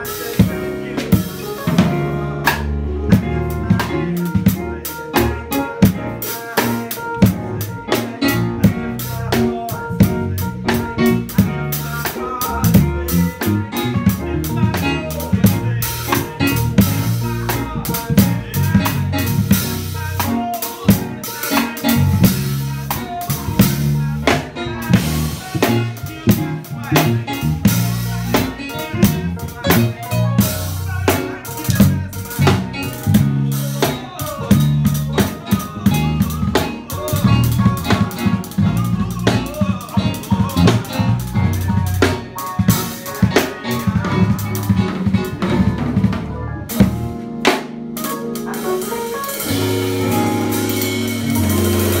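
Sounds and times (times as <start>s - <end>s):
drum kit groove: 0.0s - 52.0s
electric bass: 0.0s - 52.0s
keyboard: 0.0s - 52.0s.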